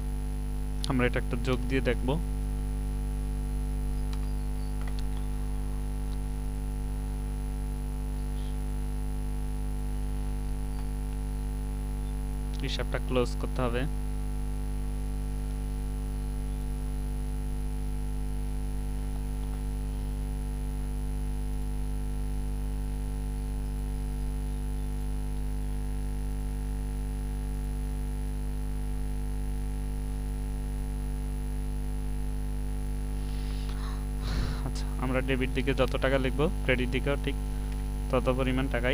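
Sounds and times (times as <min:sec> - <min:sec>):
electrical mains hum: 0:00.0 - 0:38.9
faint high whine: 0:00.0 - 0:38.9.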